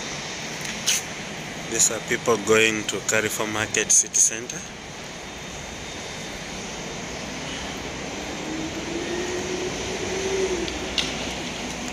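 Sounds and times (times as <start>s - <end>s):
city noise: 0.0s - 11.9s
vehicle engine hum: 0.0s - 11.9s.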